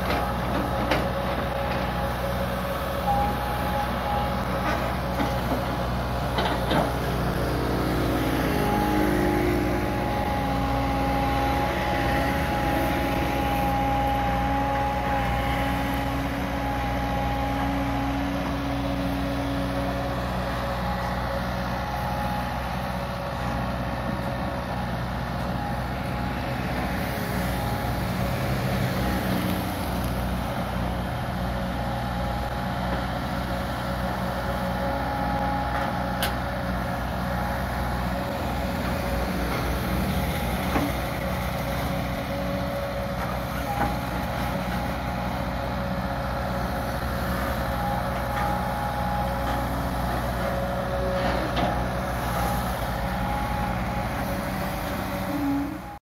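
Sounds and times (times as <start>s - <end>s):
excavator engine hum: 0.0s - 56.0s
excavator whine: 0.0s - 56.0s.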